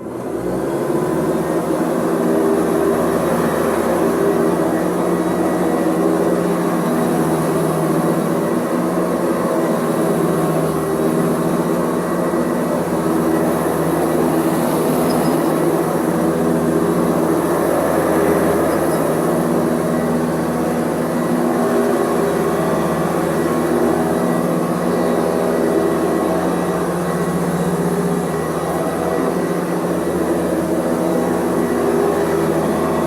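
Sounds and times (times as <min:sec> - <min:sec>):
vacuum cleaner motor hum: 0:00.0 - 0:33.0.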